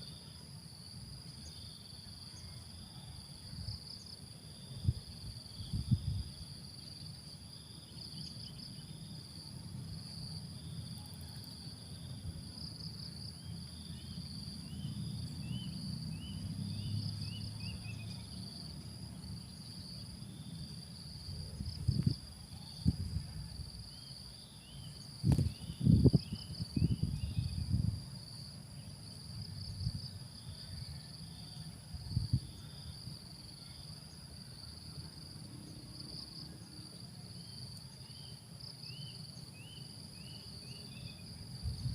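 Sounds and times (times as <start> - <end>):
insect chorus drone: 0.0 - 41.9.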